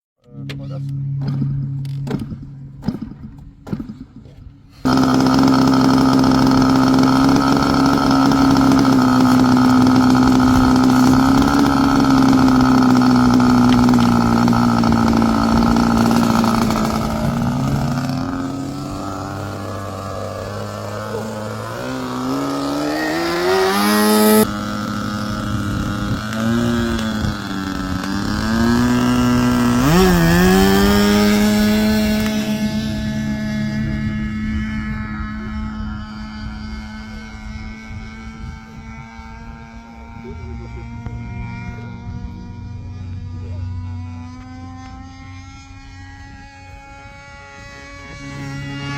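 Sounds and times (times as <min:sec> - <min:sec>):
model aircraft engine revving: 0:00.3 - 0:48.9.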